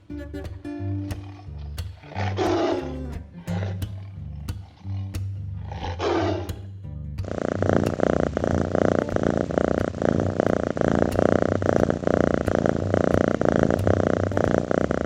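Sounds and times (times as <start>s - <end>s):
cat purring: 0.6s - 15.0s.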